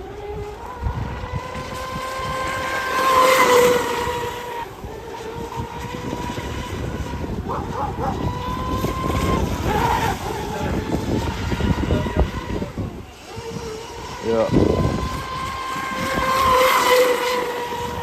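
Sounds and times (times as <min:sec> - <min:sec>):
electric boat motor whining: 0:00.0 - 0:18.0
wind rumbling on microphone: 0:00.0 - 0:18.0.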